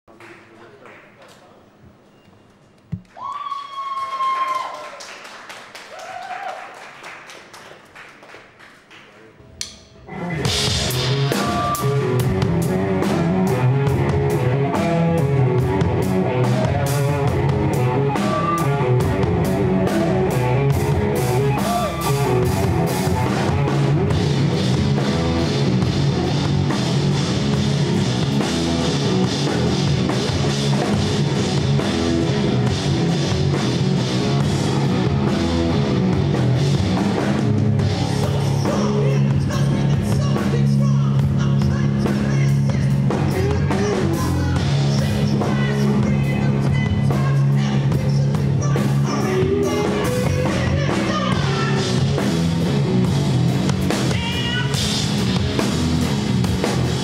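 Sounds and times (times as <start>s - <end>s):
drum kit strokes: 9.5s - 57.0s
rock band playing live: 9.5s - 57.0s.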